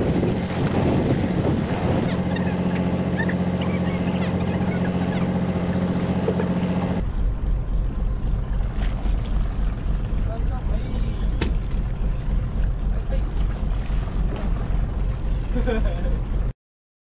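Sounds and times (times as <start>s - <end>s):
boat engine running: 0.0s - 16.5s.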